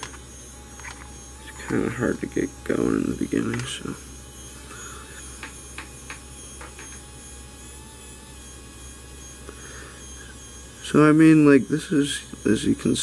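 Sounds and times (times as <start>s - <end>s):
motor and fan whirring: 0.0s - 13.0s.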